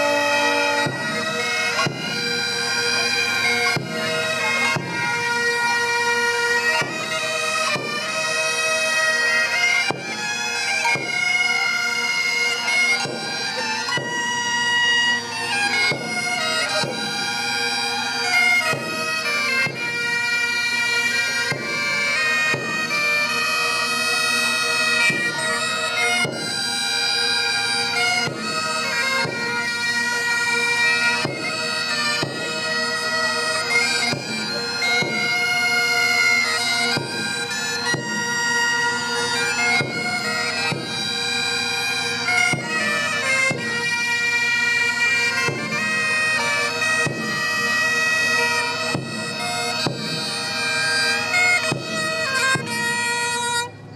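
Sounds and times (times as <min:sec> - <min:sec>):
bagpipe playing lively tune: 0:00.0 - 0:53.9.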